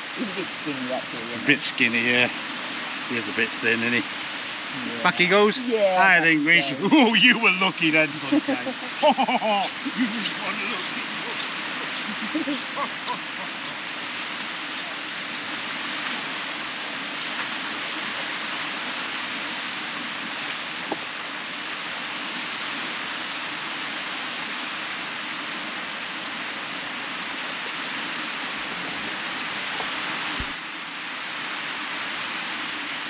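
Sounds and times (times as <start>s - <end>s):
small waves breaking on beach: 0.0s - 33.0s.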